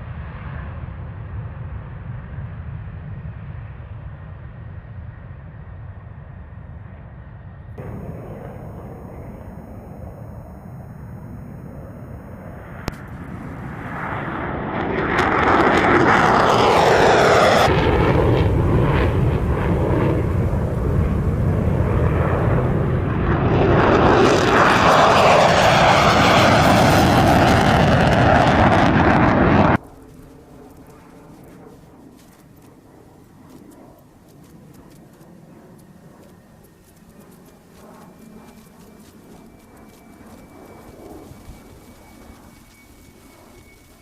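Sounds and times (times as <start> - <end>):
falling jet whine: 7.8 - 44.0
jet engine roar: 7.8 - 44.0.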